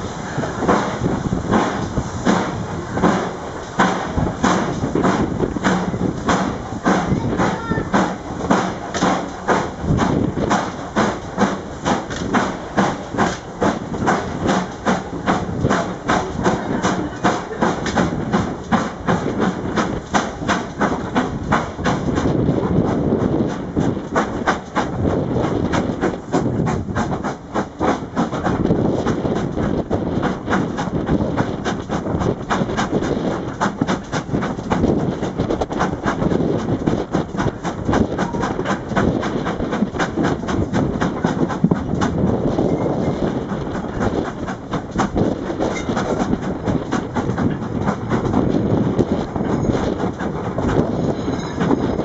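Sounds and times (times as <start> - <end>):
carriages rumbling on track: 0.0 - 52.0
wheels clicking over rail joints: 0.0 - 52.0.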